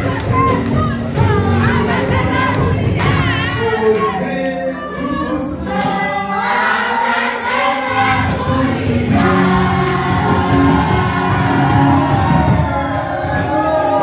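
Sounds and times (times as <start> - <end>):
amplified keyboard: 0.0 - 14.0
choir singing gospel music: 0.0 - 14.0.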